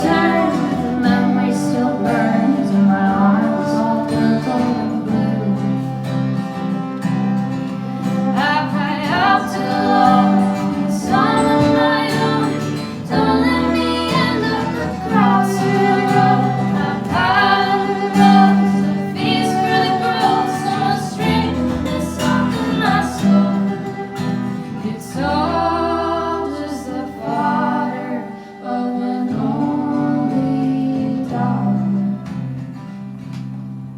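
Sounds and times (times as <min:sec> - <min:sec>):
voices singing in harmony: 0:00.0 - 0:32.6
acoustic guitar plucked and strummed: 0:00.0 - 0:33.9.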